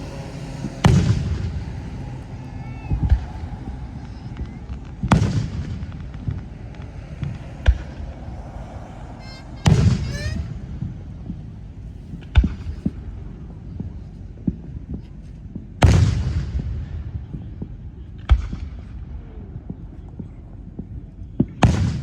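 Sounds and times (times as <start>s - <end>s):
fireworks booming: 0.0s - 22.0s
low background rumble: 0.0s - 22.0s.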